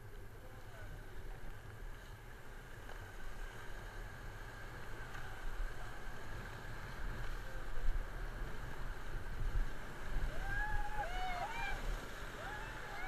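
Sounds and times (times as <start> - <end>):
river water rushing: 2.5 - 13.0.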